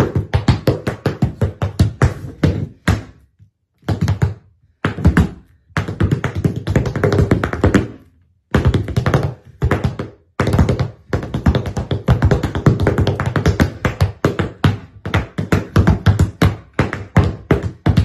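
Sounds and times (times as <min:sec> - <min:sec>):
tap shoes on hard floor: 0:00.0 - 0:18.0.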